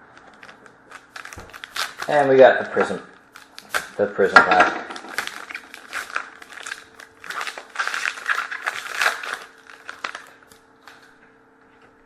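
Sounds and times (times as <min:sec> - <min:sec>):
foil wrapper crinkling: 0:00.2 - 0:11.1.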